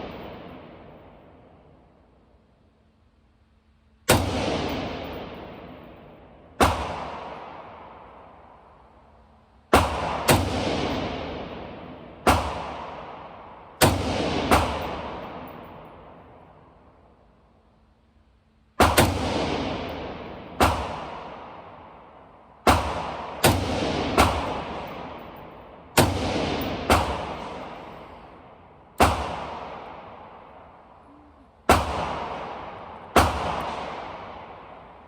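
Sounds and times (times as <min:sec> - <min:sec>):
rifle shots echoing indoors: 0:00.0 - 0:35.0.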